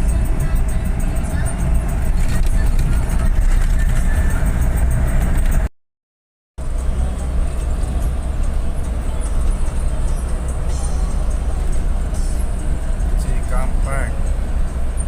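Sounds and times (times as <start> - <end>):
bus engine and road noise: 0.0 - 5.7, 6.6 - 15.0.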